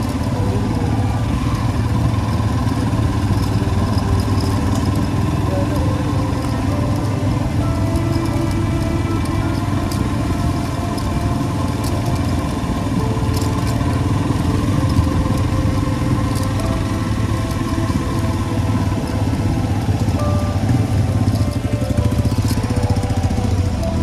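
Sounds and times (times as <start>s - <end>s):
motorcycle engine running: 0.0s - 24.0s
sharp ticks: 0.0s - 24.0s.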